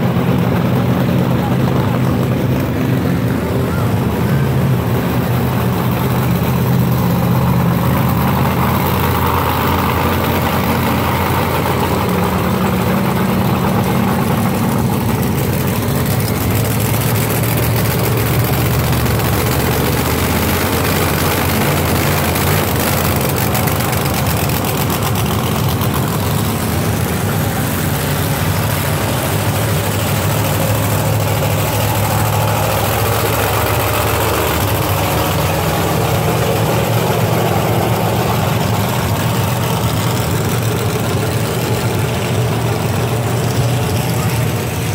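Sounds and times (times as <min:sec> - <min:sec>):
monster truck engines idling: 0:00.0 - 0:44.9.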